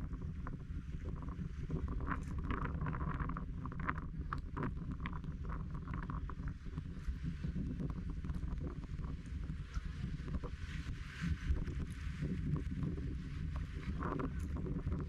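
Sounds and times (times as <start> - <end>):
steady low rumble: 0.0 - 15.0
wind on microphone: 0.0 - 15.0.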